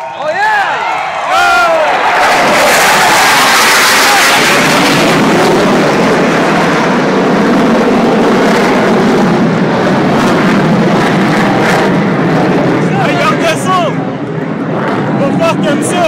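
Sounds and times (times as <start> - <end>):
fighter jet roaring overhead: 0.0 - 16.0.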